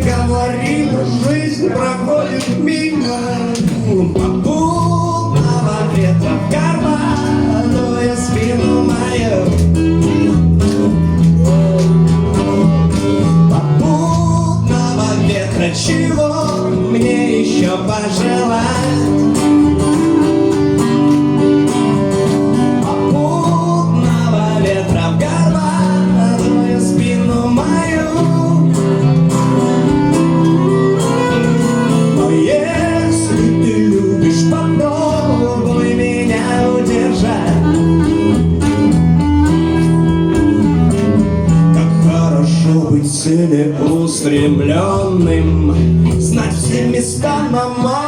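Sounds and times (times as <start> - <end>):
guitar accompaniment: 0.0 - 48.0
live band instrumental: 0.0 - 48.0.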